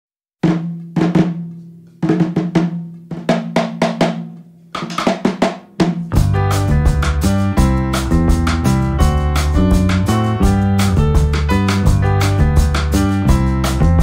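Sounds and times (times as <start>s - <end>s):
syncopated drum hits: 0.4s - 14.0s.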